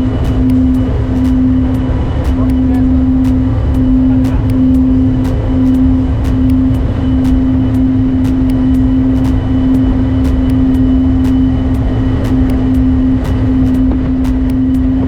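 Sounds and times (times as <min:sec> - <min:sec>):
crackles: 0:00.0 - 0:15.0
outboard engines droning: 0:00.0 - 0:15.0.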